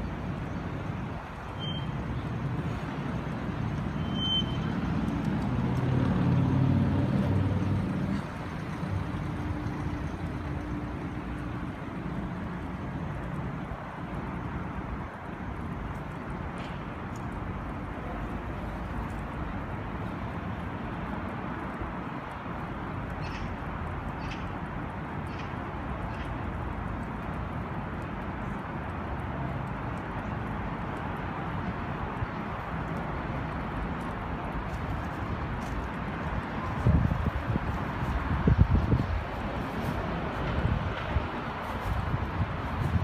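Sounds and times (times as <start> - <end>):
distant traffic hum: 0.0 - 43.0.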